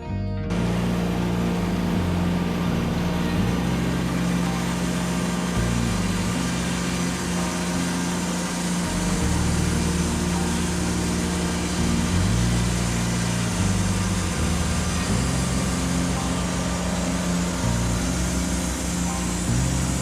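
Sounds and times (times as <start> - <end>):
band sawmill cutting log: 0.5 - 20.0.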